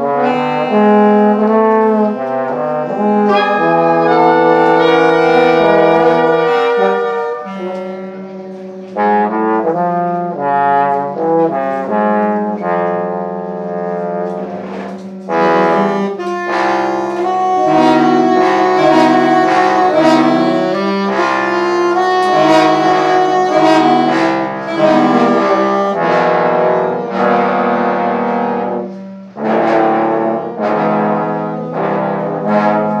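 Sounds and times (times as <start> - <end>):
saxophones and trumpet playing: 0.0 - 33.0.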